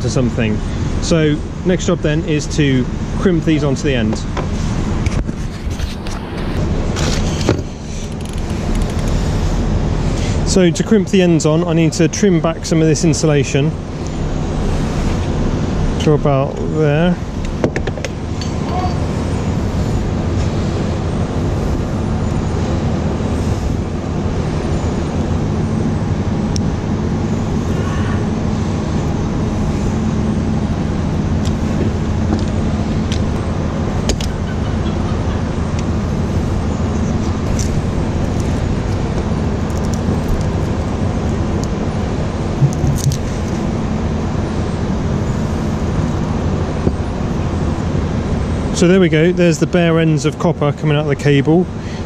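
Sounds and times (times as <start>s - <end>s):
engine humming: 0.0s - 52.0s.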